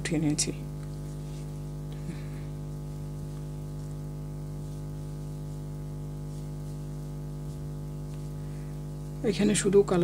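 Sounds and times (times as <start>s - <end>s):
low electrical hum: 0.0s - 10.0s
faint hiss: 1.0s - 10.0s.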